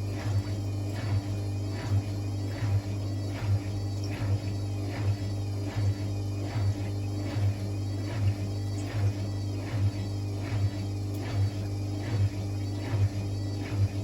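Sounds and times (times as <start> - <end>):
washing machine hum: 0.0 - 14.0
wet laundry swishing in drum: 0.0 - 14.0.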